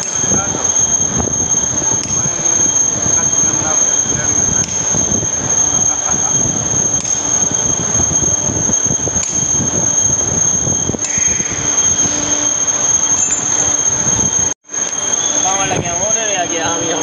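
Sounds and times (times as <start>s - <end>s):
high-pitched whine: 0.0s - 17.0s
rumbling machine noise: 0.0s - 17.0s.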